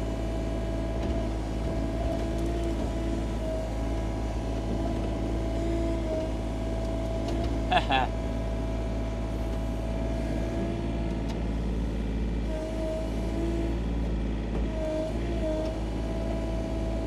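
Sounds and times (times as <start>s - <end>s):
excavator diesel engine running: 0.0s - 17.0s
hydraulic whine: 0.0s - 17.0s.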